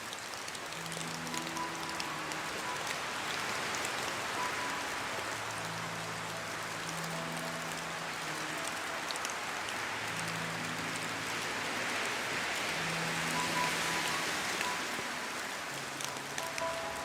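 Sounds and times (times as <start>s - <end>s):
soft background music: 0.0s - 17.0s
steady rain falling: 0.0s - 17.0s.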